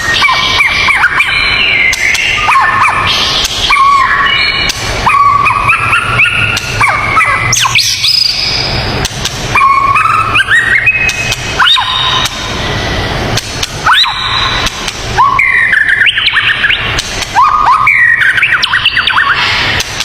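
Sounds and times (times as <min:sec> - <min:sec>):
bird whistling song: 0:00.0 - 0:08.8, 0:09.5 - 0:12.5, 0:13.8 - 0:20.0
steady low hum: 0:00.0 - 0:20.0.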